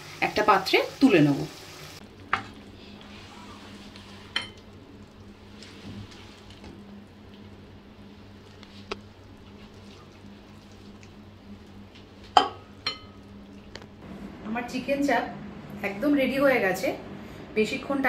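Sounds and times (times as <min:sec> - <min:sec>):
faint sizzle: 0:00.0 - 0:17.7
steady low hum: 0:02.0 - 0:18.0.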